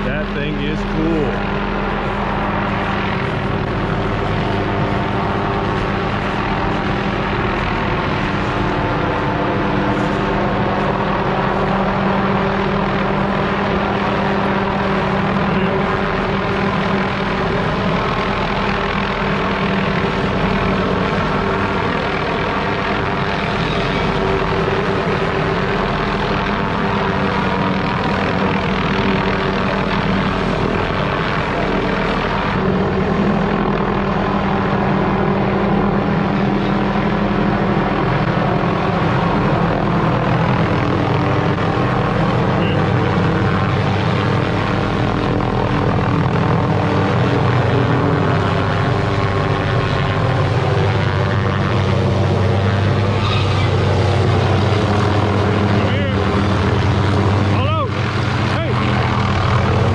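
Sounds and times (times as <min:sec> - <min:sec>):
helicopter flying close: 0:00.0 - 0:59.9.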